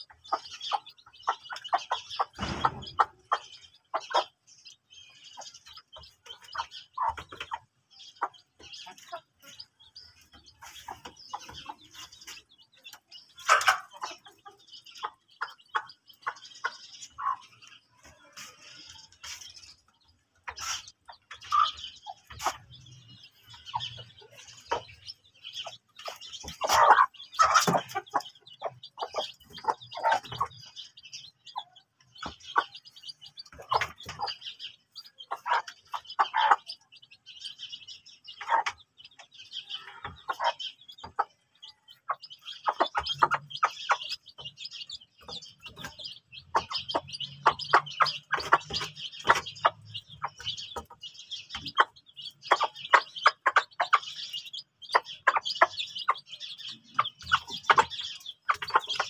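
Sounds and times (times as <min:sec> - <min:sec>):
chicks peeping: 0:00.0 - 0:59.0
hens clucking: 0:00.0 - 0:59.0.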